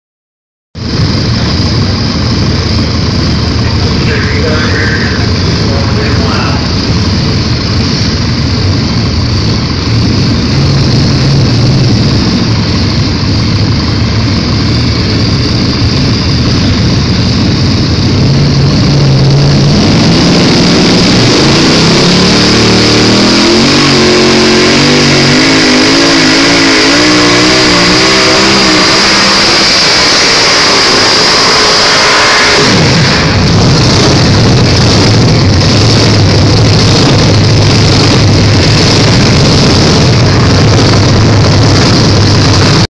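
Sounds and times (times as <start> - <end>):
tractor engine at full throttle: 0.7 - 42.9.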